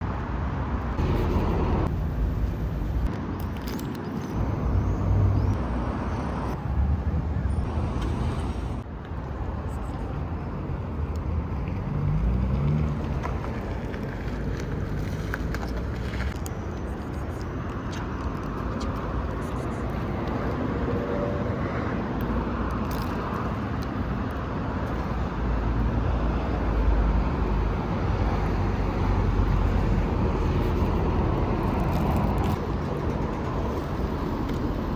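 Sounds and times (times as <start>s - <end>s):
cars passing: 0.0s - 3.4s, 10.2s - 34.9s
road traffic rumble: 0.0s - 34.9s.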